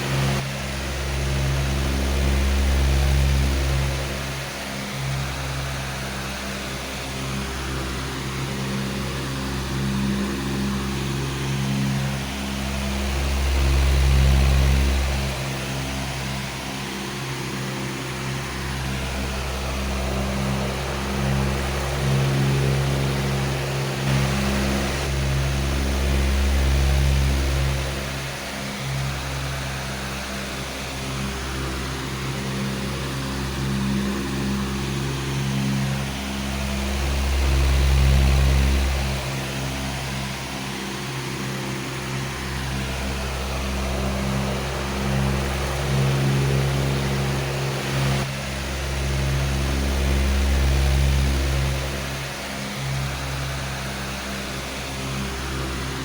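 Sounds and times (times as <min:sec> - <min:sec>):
electric fan running: 0:00.0 - 0:56.0.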